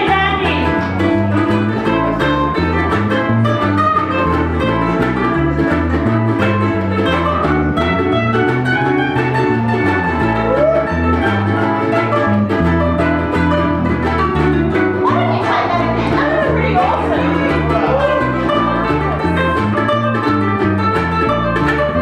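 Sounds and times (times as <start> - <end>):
plucked double bass: 0.0 - 22.0
strummed ukuleles: 0.0 - 22.0.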